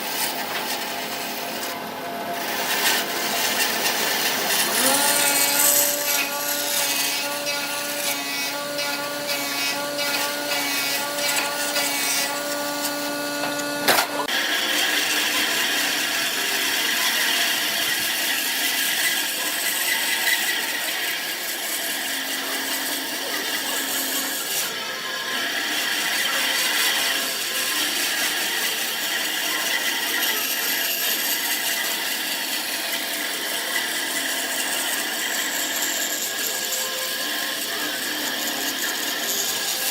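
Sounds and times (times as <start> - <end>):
lathe motor hum: 0.0 - 39.9
tool cutting spinning wood: 0.0 - 39.9.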